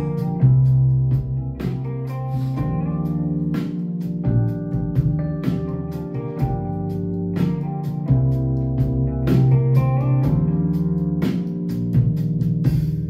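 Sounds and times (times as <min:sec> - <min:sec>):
guitar music with heavy bass: 0:00.0 - 0:13.0.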